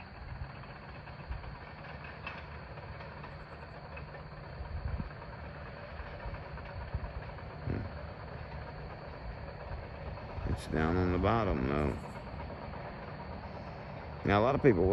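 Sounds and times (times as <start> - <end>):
distant bulldozer engine rumbling: 0.0 - 14.9.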